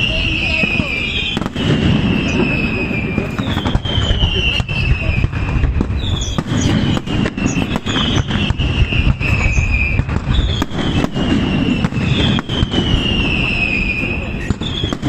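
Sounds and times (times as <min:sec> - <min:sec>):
firework bangs: 0:00.0 - 0:15.0
whistling firework shells: 0:00.0 - 0:15.0.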